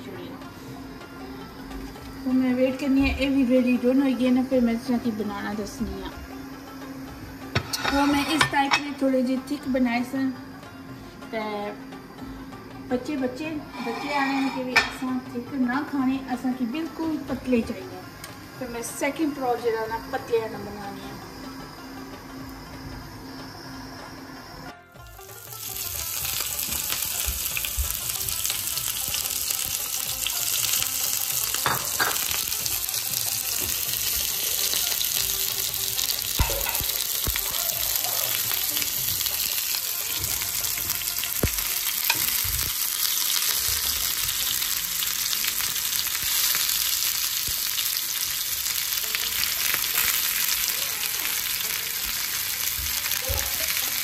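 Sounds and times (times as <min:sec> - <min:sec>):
meat sizzling in a pan: 0:00.0 - 0:10.0, 0:11.3 - 0:22.6, 0:25.0 - 0:54.0.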